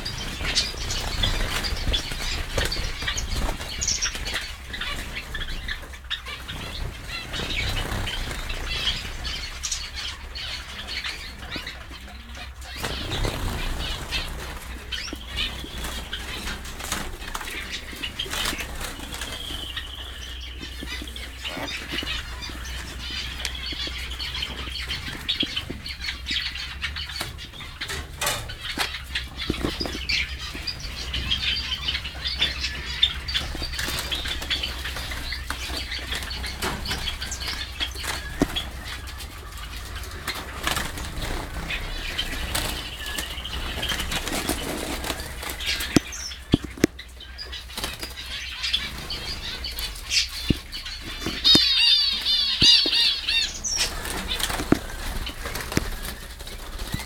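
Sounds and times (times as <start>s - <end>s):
finches chirping: 0.0s - 57.0s.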